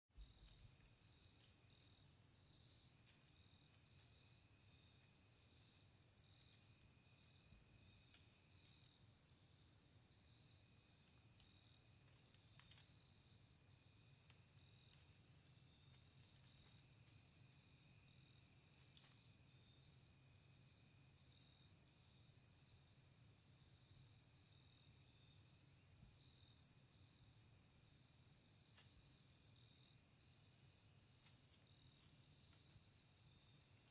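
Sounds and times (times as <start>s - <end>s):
crickets chirping: 0.1s - 33.9s
low insect trill: 0.2s - 33.9s.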